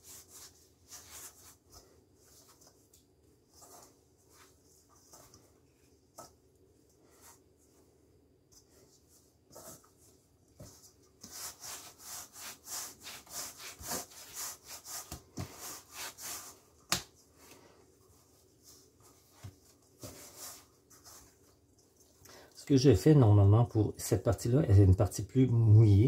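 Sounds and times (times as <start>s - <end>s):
hands kneading dough: 0.0s - 23.4s.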